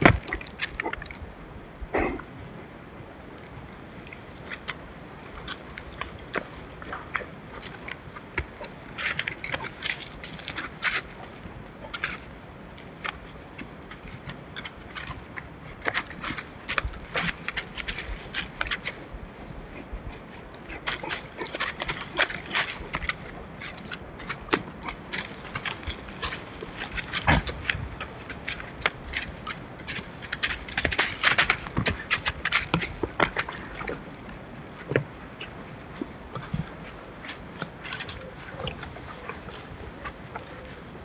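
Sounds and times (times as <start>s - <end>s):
hooves on dry leaves: 3.8s - 41.0s.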